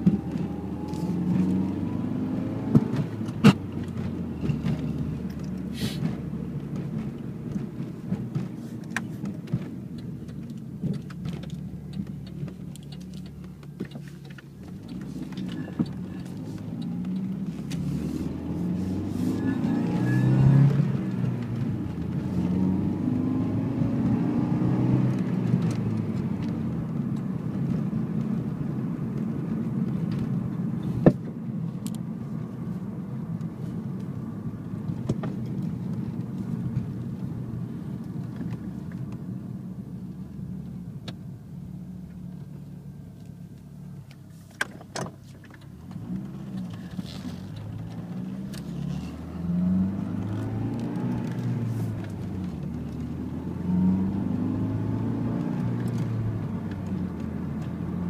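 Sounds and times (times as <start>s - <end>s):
car engine and exhaust: 0.0s - 58.0s.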